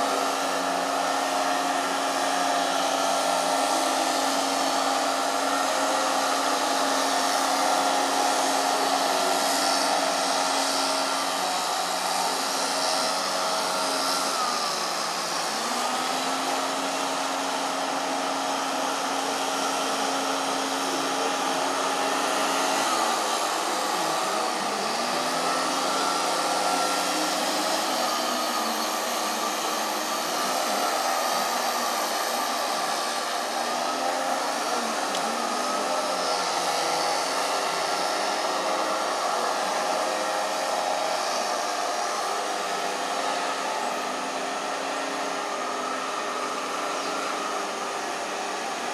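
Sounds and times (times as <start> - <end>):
motorised machine whining: 0.0 - 48.9.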